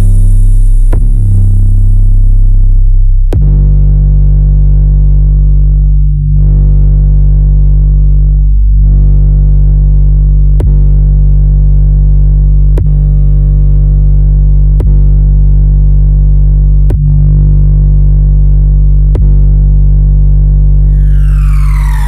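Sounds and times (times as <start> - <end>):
deep synthesized bass drone: 0.0 - 22.0.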